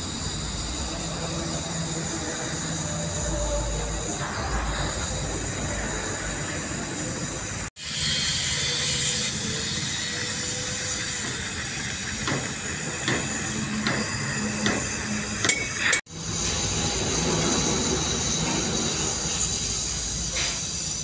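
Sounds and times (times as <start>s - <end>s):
welding torch flame hissing: 0.0s - 21.0s.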